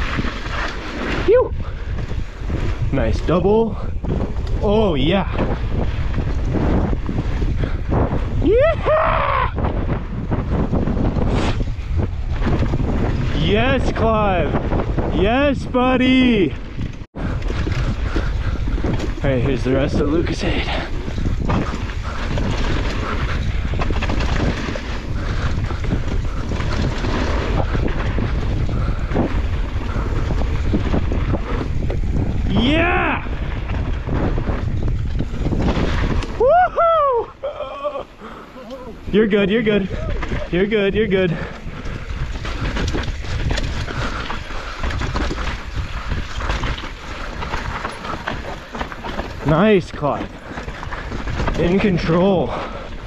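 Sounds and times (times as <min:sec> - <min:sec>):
bike knocking and rattling: 0:00.0 - 0:08.5, 0:09.6 - 0:53.0
tyres rolling over dirt: 0:00.0 - 0:53.0
wind buffeting microphone: 0:00.0 - 0:53.0.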